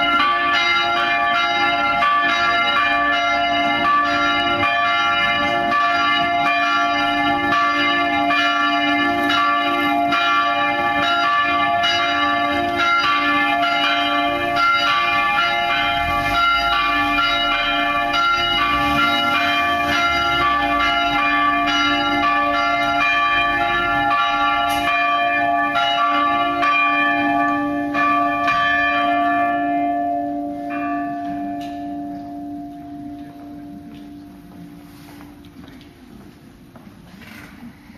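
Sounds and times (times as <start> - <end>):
church bells pealing: 0.0 - 35.6.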